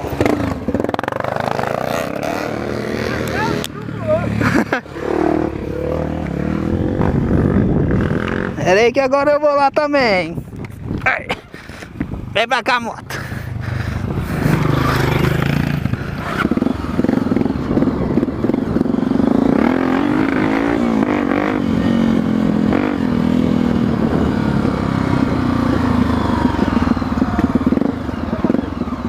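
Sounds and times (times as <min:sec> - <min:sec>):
dirt bike engine revving: 0:00.0 - 0:08.9, 0:13.1 - 0:29.0.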